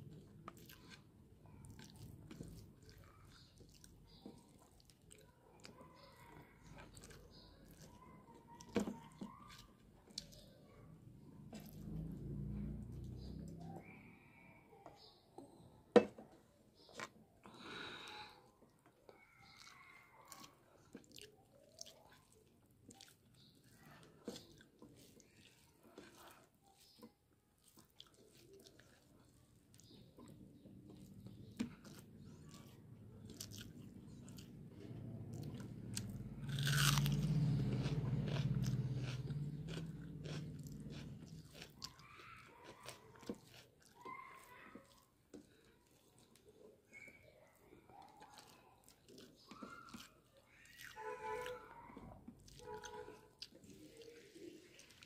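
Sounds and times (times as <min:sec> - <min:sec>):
wet chewing and lip smacks: 0:00.0 - 0:14.0, 0:16.8 - 0:55.0.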